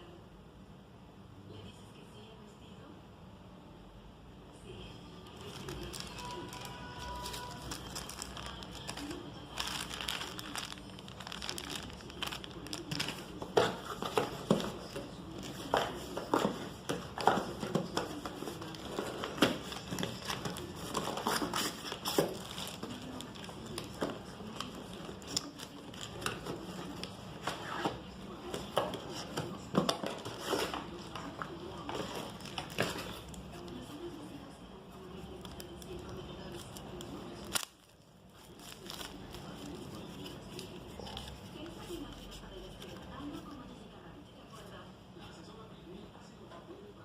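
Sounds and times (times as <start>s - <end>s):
packaging crinkling and rustling: 5.2s - 34.4s, 35.0s - 43.5s.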